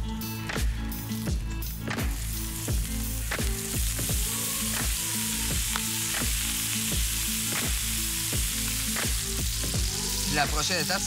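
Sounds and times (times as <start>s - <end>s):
background music with steady beat: 0.0s - 11.0s
bacon sizzling on griddle: 1.0s - 11.0s.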